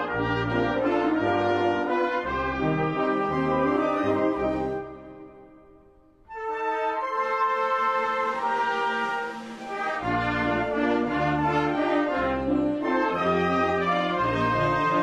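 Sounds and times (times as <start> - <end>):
brass band playing slow tune: 0.0 - 15.0
low brass bass notes: 0.0 - 15.0.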